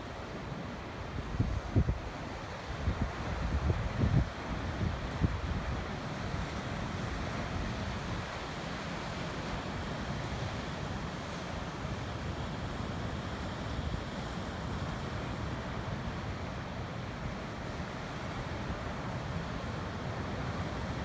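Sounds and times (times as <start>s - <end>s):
ocean surf: 0.0s - 21.0s.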